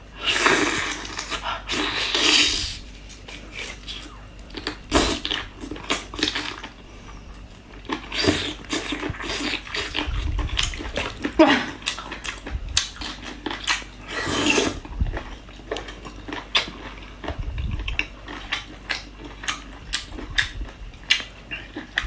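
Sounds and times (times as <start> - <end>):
person chewing and smacking food: 3.0 - 22.0.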